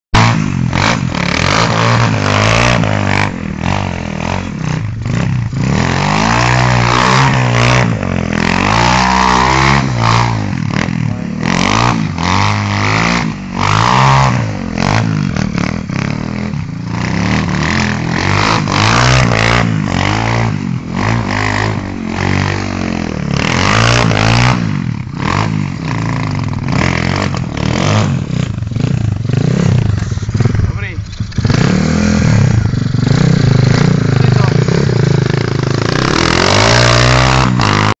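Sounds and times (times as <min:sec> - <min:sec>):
small motorbike engine revving: 0:00.2 - 0:38.0.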